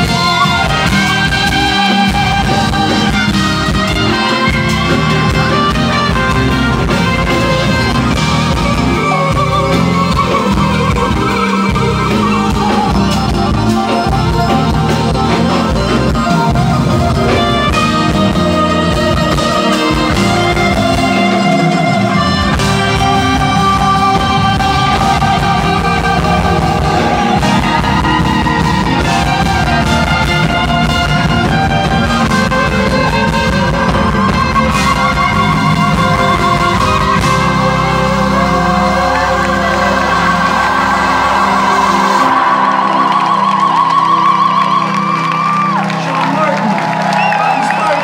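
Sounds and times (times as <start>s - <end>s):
jazz-fusion band playing: 0.0s - 48.0s.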